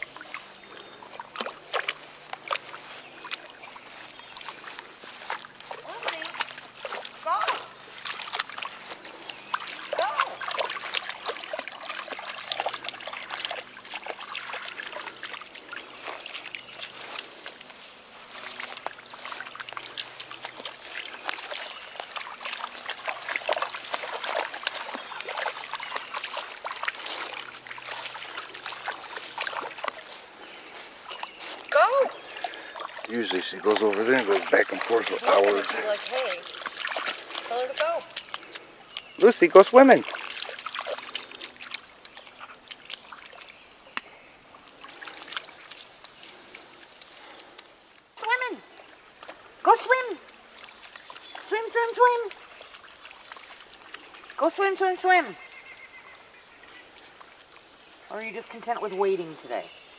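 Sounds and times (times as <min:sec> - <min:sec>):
dog splashing in water: 0:00.0 - 0:47.6, 0:48.2 - 0:55.6
trickling water: 0:00.0 - 0:59.9.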